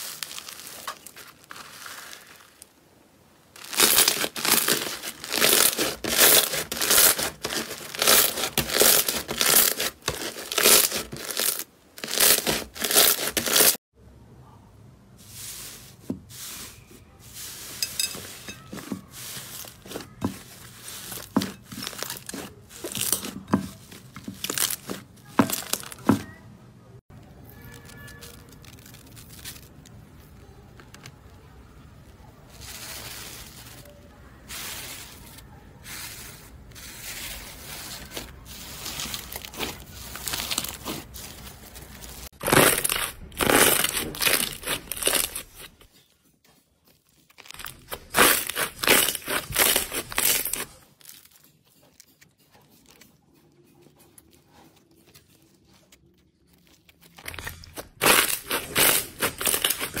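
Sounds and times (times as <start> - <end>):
sticky slime squelching: 3.5 - 13.8, 15.2 - 26.5, 27.1 - 46.1, 46.7 - 60.0.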